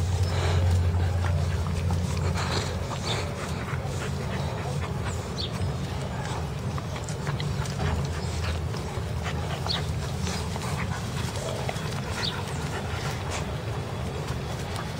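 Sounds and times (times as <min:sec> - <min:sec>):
puppies panting: 0:00.0 - 0:14.9
puppies whimpering: 0:00.0 - 0:14.9.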